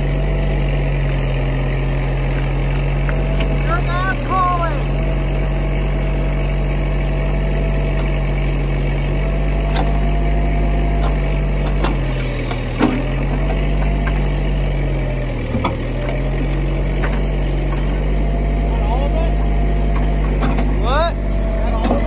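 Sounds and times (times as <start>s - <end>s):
backhoe engine drone: 0.0s - 22.0s.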